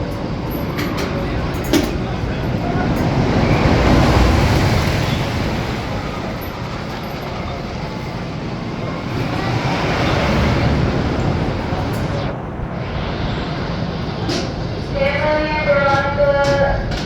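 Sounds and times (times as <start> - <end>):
roller coaster train rumbling on track: 0.0 - 17.0.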